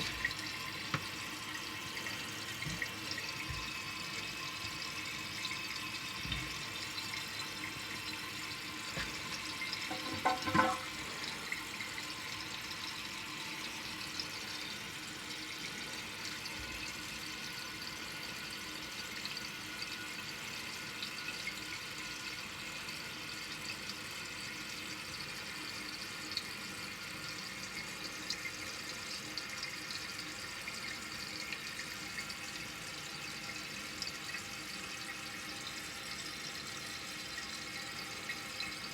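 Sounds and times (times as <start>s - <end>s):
water running into toilet: 0.0s - 38.9s.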